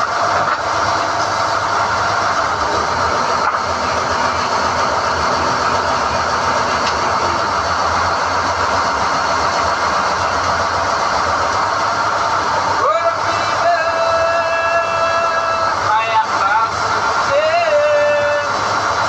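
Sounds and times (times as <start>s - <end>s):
drilling rig running: 0.0s - 19.0s.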